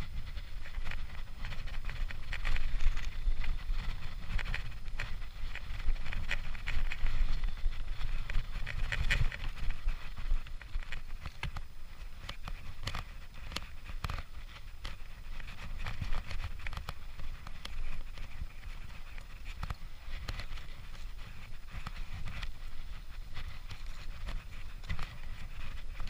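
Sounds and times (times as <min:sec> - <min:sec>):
bike rattling: 0:00.0 - 0:26.0
bike tyres on dirt: 0:00.0 - 0:26.0
low wind rumble: 0:00.0 - 0:26.0.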